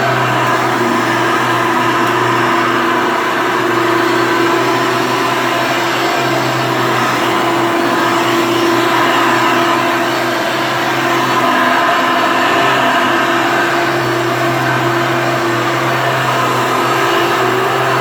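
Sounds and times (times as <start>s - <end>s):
vacuum cleaner motor hum: 0.0s - 18.0s.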